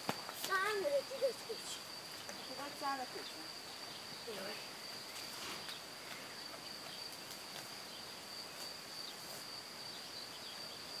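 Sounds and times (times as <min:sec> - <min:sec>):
faint meadow ambience: 0:00.0 - 0:11.0
high-pitched insect trill: 0:00.0 - 0:11.0.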